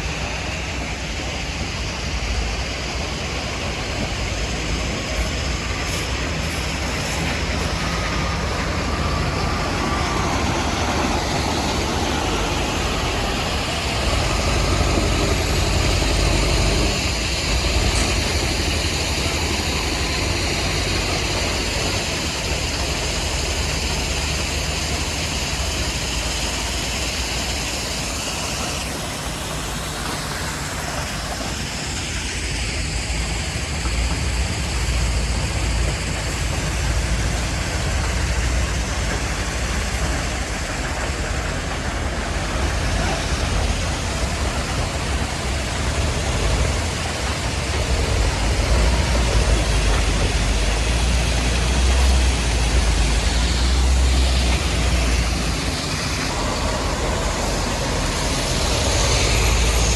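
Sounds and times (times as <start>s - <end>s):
diesel machinery engine drone: 0.0s - 59.9s
noisy rush and rattle: 0.0s - 59.9s.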